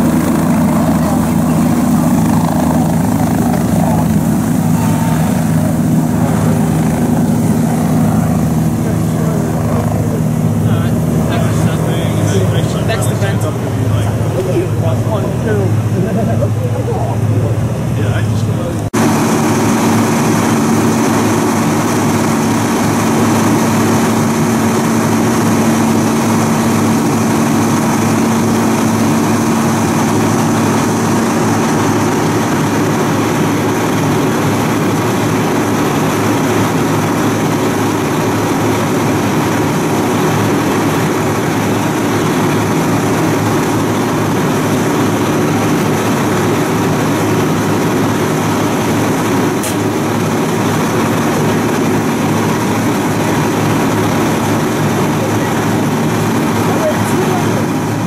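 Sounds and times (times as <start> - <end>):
diesel engine idling: 0.0 - 58.0
steady hum: 0.0 - 58.0.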